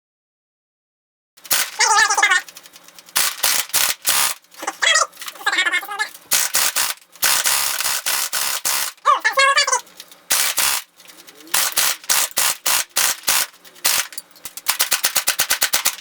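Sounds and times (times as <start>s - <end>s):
electric airsoft gun bursts: 1.4s - 16.0s.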